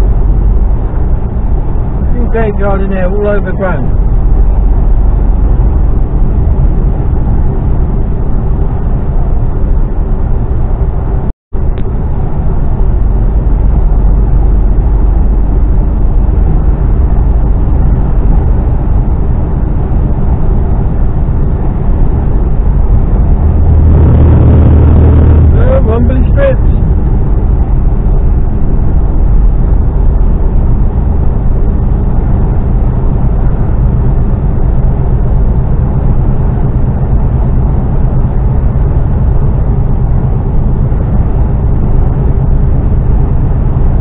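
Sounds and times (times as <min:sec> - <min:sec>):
lorry diesel engine droning: 0:00.0 - 0:44.0.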